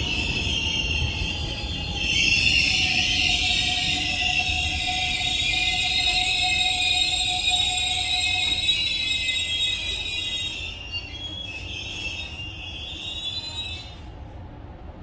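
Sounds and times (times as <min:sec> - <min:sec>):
train brakes squealing: 0:00.0 - 0:14.2
train low rumble: 0:00.0 - 0:15.0.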